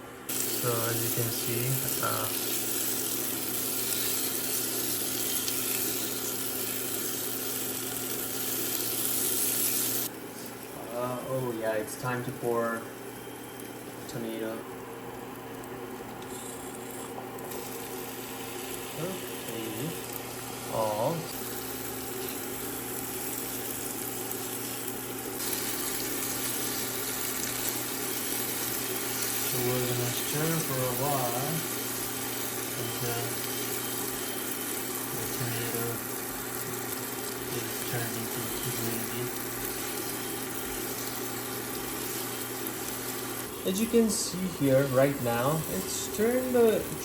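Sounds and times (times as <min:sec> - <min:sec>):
machine humming: 0:00.0 - 0:47.0
food sizzling in pot: 0:00.3 - 0:10.1, 0:16.2 - 0:47.0.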